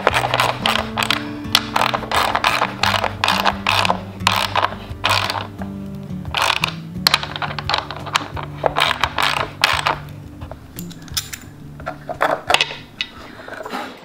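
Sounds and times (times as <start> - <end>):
wrench clinking: 0.0 - 10.2, 10.8 - 13.4
background music with low notes: 0.0 - 14.0.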